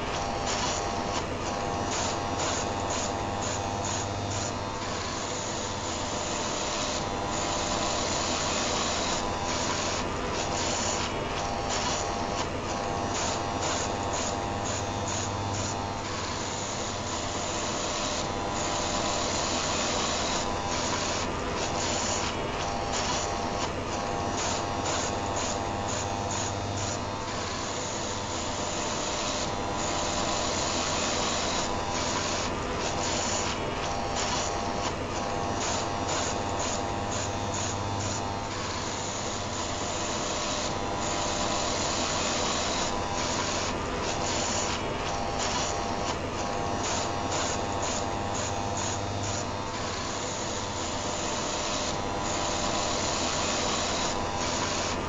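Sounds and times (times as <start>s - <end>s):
electric heater whirring: 0.0s - 55.0s
electric shaver buzzing: 0.0s - 55.0s.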